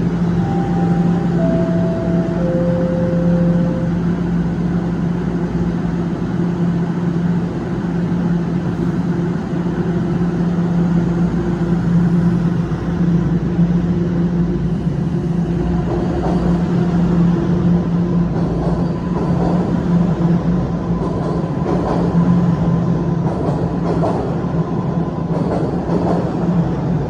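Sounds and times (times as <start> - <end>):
subway train pulling out: 0.0 - 27.0.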